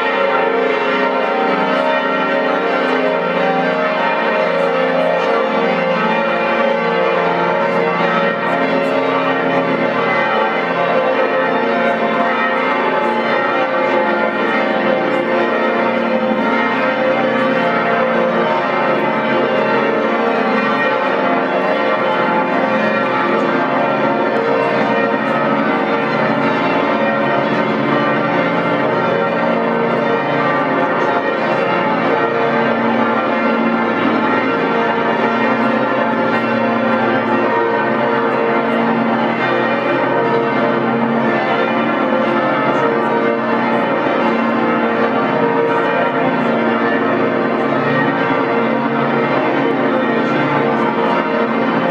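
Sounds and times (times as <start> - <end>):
church bells pealing: 0.0 - 51.9.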